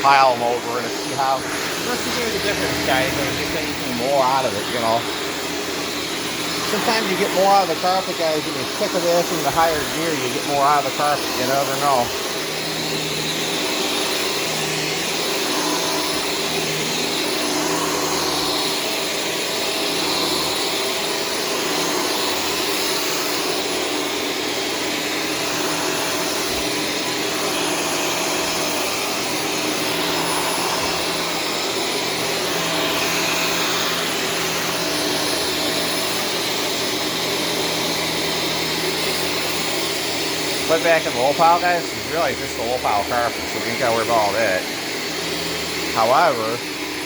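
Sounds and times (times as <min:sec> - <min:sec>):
vacuum cleaner on carpet: 0:00.0 - 0:47.0.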